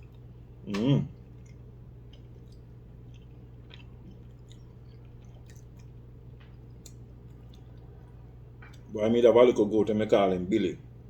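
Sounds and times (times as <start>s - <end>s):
person chewing food: 0.0s - 8.9s
steady low hum: 0.0s - 11.0s.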